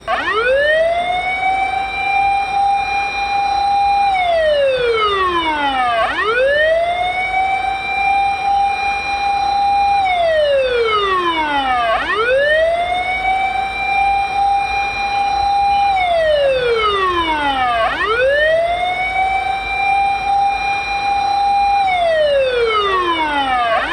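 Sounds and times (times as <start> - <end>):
fire engine siren wailing: 0.0 - 23.9.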